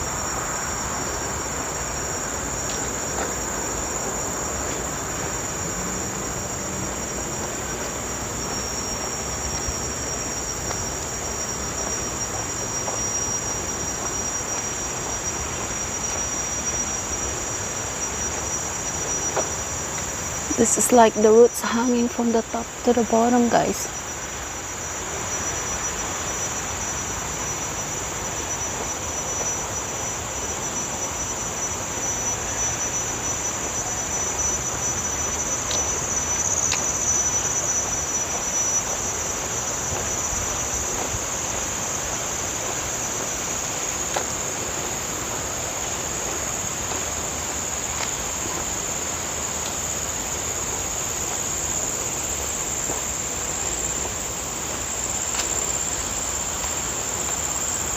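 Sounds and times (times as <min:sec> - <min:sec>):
high insect tone: 0:00.0 - 0:57.9
high-pitched insect chorus: 0:00.0 - 0:57.9.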